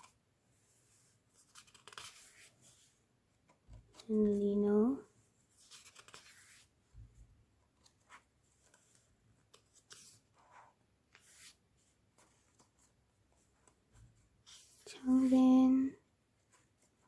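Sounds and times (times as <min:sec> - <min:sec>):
photo book pages rustling: 0:00.0 - 0:04.6, 0:05.4 - 0:17.0.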